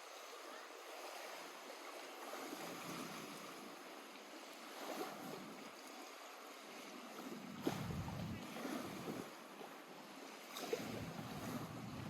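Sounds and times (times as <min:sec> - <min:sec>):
lake water lapping at shore: 0:00.0 - 0:12.0.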